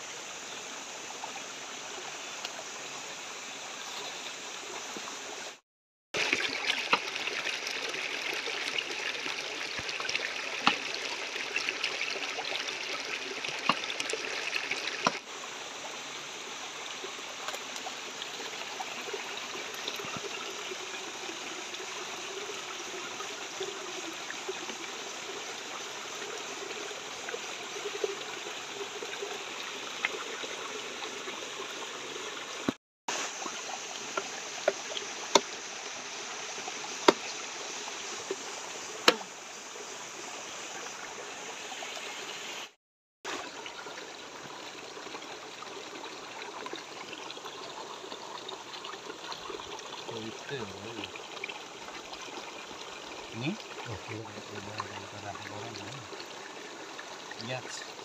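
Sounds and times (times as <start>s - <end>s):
stream running over rocks: 0.0s - 5.6s, 6.2s - 58.0s.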